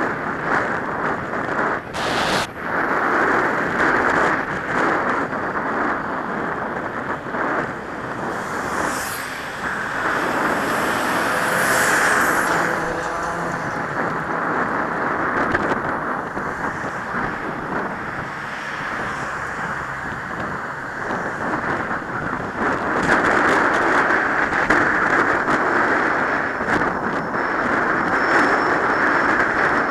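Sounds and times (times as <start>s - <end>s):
traffic passing: 0.0s - 29.9s
wind on microphone: 0.0s - 29.9s.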